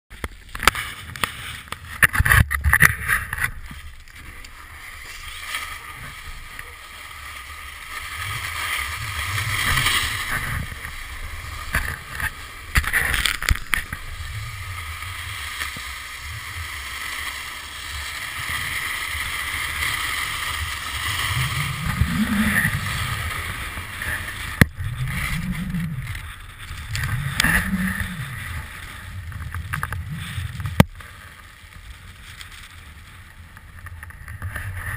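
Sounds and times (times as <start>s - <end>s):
wind rumble against camera: 0.1s - 34.9s.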